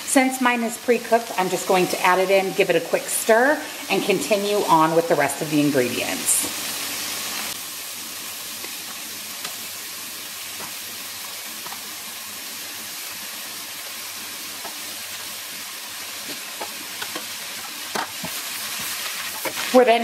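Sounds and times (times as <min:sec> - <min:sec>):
onions and chicken sizzling in butter: 0:00.0 - 0:20.0.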